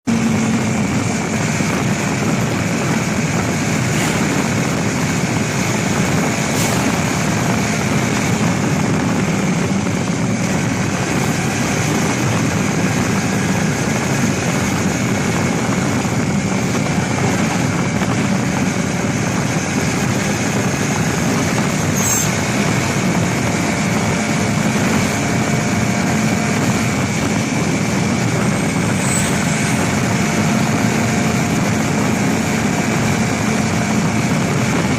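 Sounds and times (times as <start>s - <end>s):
motorcycle engine running steadily: 0.0s - 34.9s.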